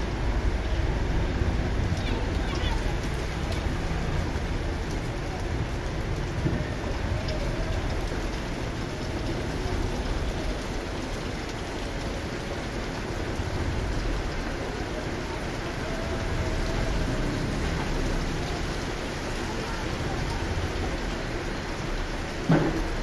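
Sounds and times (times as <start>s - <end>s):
rain on pavement: 0.0s - 23.0s.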